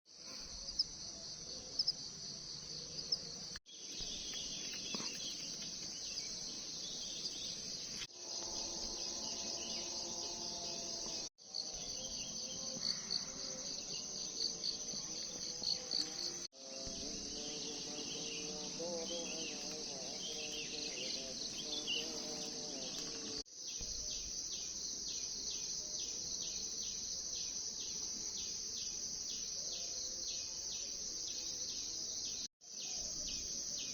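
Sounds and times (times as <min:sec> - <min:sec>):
insects buzzing: 0:00.1 - 0:33.9.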